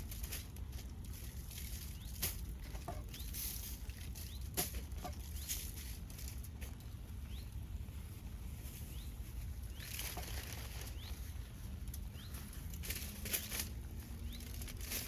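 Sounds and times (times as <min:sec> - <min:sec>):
rustling flapping noises: 0:00.0 - 0:15.0
steady low rumble: 0:00.0 - 0:15.0.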